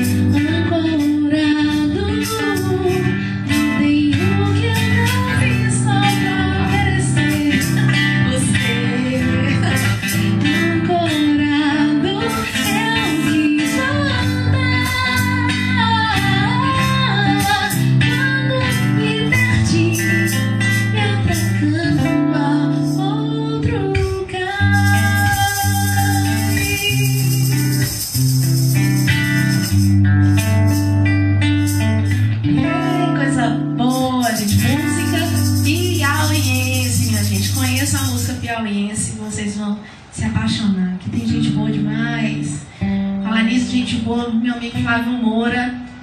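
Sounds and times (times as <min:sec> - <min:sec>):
woman singing into microphone: 0:00.0 - 0:27.8, 0:32.5 - 0:46.0
plucked guitar: 0:00.0 - 0:39.4, 0:40.3 - 0:46.0.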